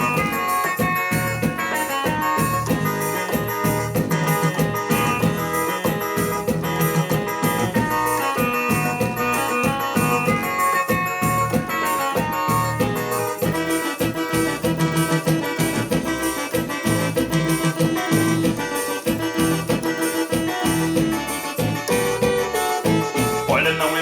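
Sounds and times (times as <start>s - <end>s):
keyboard melody: 0.0s - 24.0s
steady driving beat: 0.0s - 24.0s.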